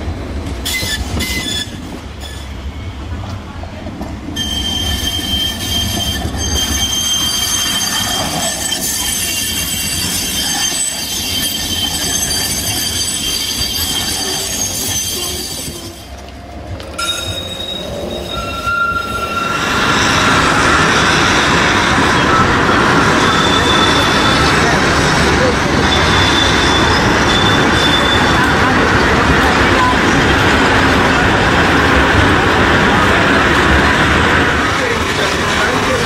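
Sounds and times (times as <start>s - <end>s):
street noise: 0.0s - 36.0s
tram rumble: 0.0s - 36.0s
tram wheels squealing on rails: 0.0s - 36.0s.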